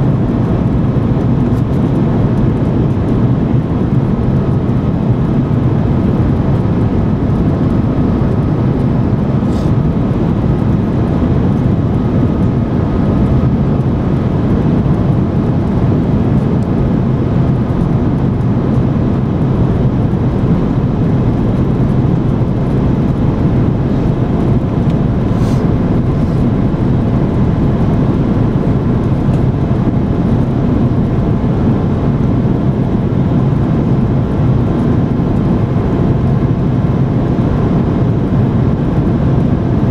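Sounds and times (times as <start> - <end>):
engine and airflow roar: 0.0 - 39.9
faint steady hums: 0.0 - 39.9.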